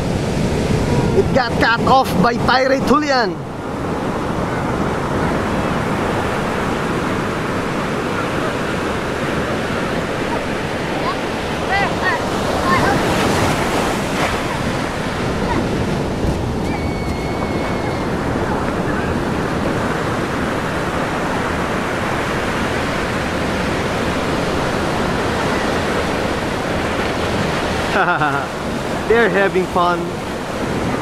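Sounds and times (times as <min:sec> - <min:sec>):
wind noise on microphone: 0:00.0 - 0:29.1
ocean surf washing onto beach: 0:00.0 - 0:31.0.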